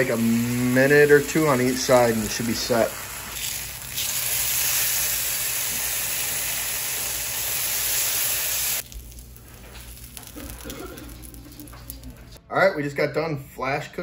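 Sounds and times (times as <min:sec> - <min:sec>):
bacon sizzling in frying pan: 0:00.0 - 0:12.1.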